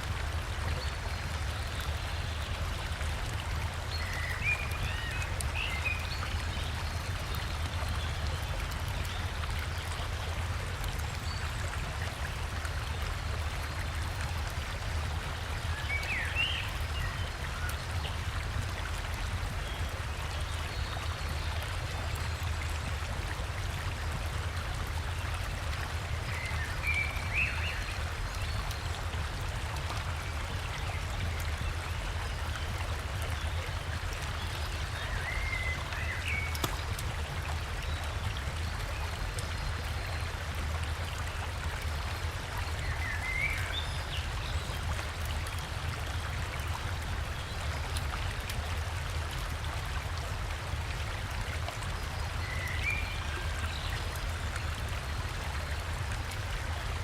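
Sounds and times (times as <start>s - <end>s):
river water flowing over waterfall: 0.0s - 57.0s.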